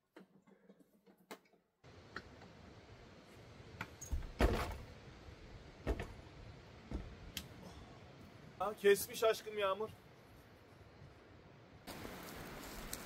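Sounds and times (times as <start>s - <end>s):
steady hiss: 1.9s - 13.0s.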